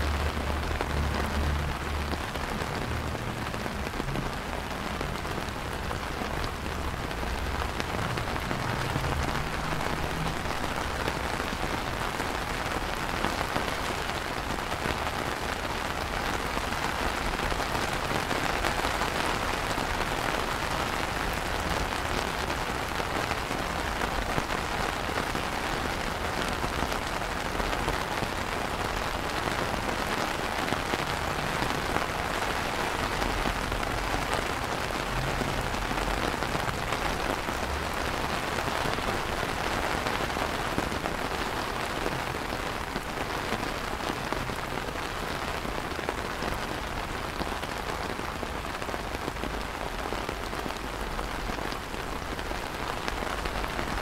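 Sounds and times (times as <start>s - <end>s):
rain on wet stone paving: 0.0s - 54.0s.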